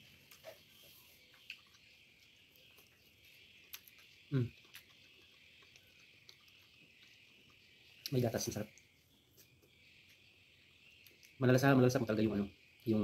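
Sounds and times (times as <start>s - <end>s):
insect chirring: 1.2s - 13.0s.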